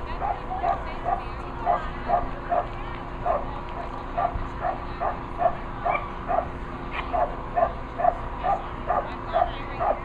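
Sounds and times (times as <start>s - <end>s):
dog barking: 0.2s - 3.5s, 4.2s - 6.5s, 7.1s - 10.0s.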